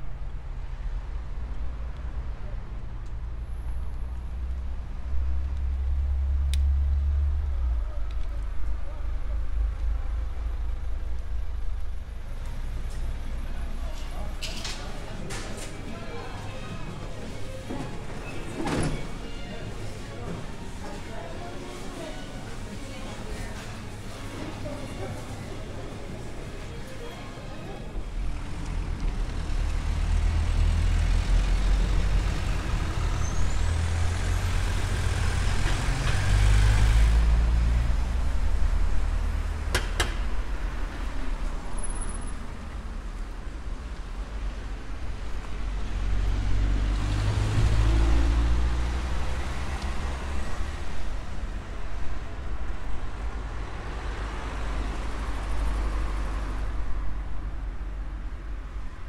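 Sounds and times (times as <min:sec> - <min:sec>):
vehicles passing: 0:00.5 - 0:59.0.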